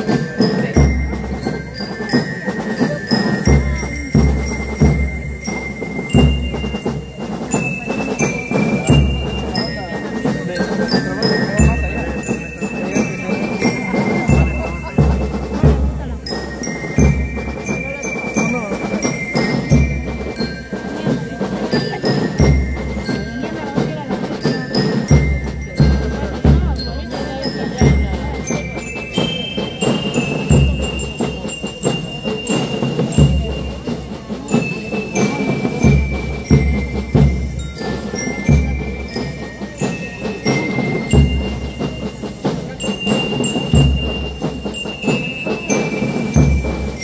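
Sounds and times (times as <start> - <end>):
bell lyre melody: 0.0 - 47.0
snare drums rattling: 0.0 - 47.0.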